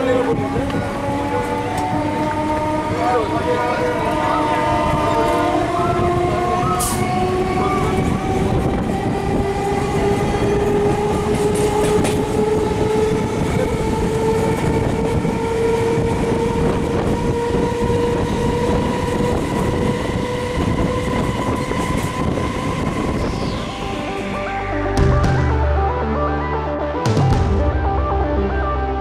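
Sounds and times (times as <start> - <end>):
train wheels rumbling and clattering: 0.0 - 24.2.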